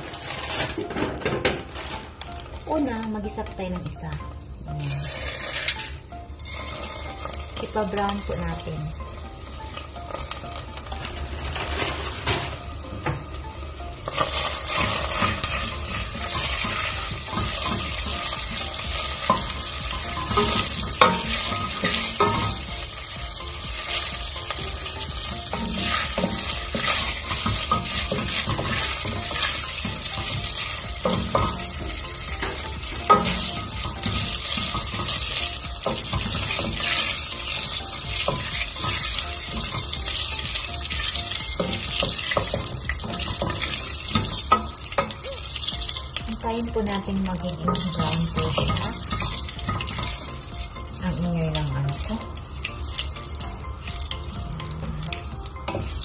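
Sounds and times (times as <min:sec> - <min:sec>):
noodles sizzling in oil: 0:00.0 - 0:56.0.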